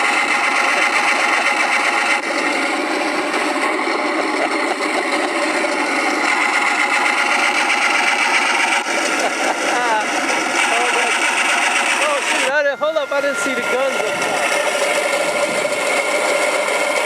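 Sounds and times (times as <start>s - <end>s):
simulated piston engine sound: 0.0s - 17.0s.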